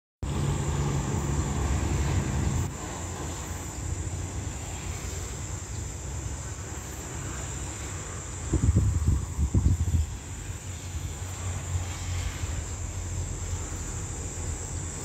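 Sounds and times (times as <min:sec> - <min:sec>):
low engine drone: 0:00.2 - 0:15.0
steady outdoor hiss: 0:00.2 - 0:15.0.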